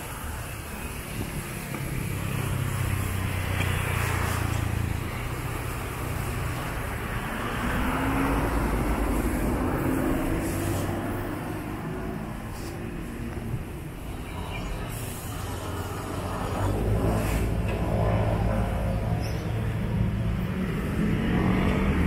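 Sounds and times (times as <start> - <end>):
rumble of passing vehicles: 0.0 - 22.0
vehicle engine passing by: 2.0 - 12.7, 14.9 - 22.0.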